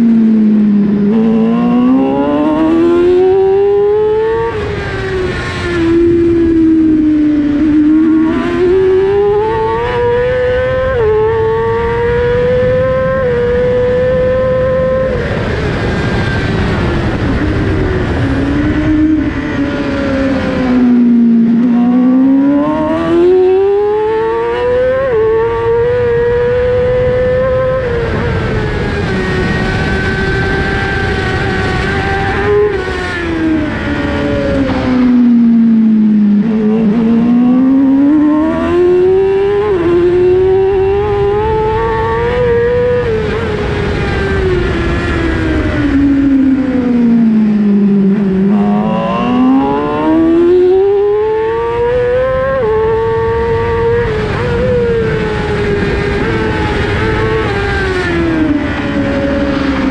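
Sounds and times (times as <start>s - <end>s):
motorcycle engine revving high: 0.0s - 59.9s.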